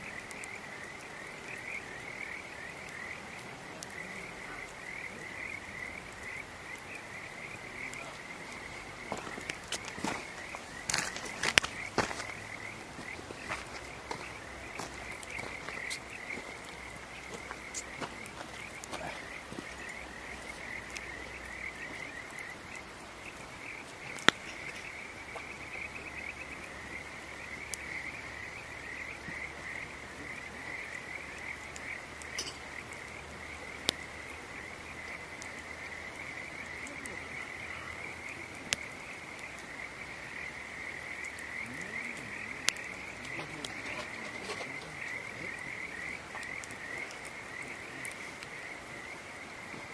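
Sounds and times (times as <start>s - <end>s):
campfire popping: 0.0s - 49.9s
chorus of frogs calling: 0.0s - 49.9s.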